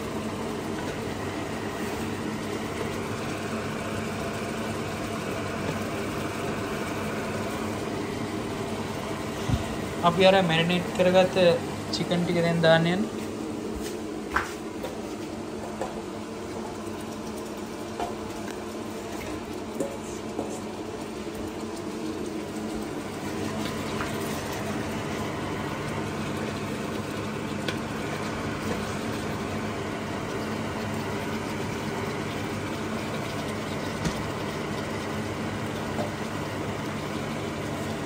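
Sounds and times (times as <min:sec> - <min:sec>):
chicken cooking in a pot: 0:00.0 - 0:38.0
steady low hum: 0:00.0 - 0:38.0.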